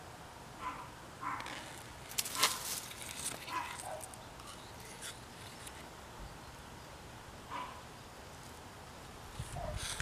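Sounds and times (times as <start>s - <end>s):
rustling grass and dry leaves: 1.2s - 10.0s.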